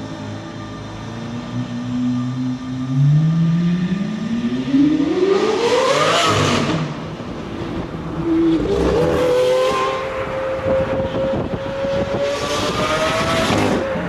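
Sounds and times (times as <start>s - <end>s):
car engine accelerating: 1.3s - 14.0s.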